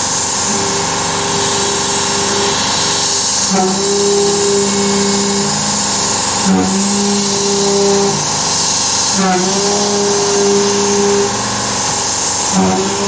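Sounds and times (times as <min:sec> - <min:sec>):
milling machine hissing: 0:00.0 - 0:13.0
motor humming: 0:00.0 - 0:13.0.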